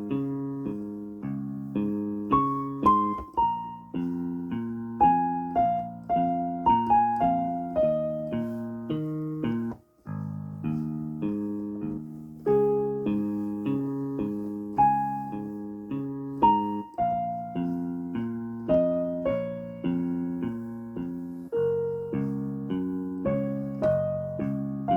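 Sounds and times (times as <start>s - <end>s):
piano melody: 0.0s - 24.9s.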